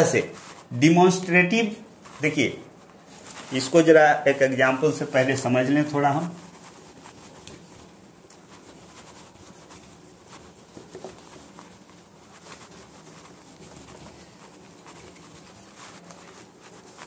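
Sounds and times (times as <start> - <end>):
duster rubbing whiteboard: 0.0 - 17.0.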